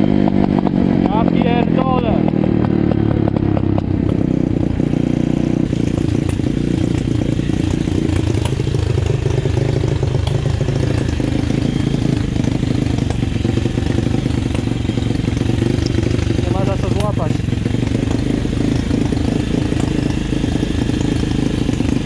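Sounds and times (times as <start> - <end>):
motorbike engine slowing and idling: 0.0 - 22.0.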